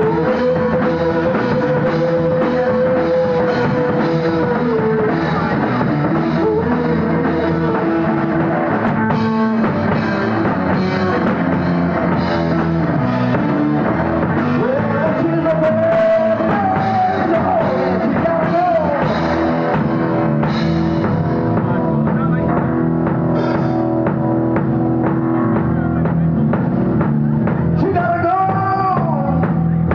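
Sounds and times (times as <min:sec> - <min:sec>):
lead guitar line bending: 0:00.0 - 0:28.6
rock band playing live: 0:00.0 - 0:29.9.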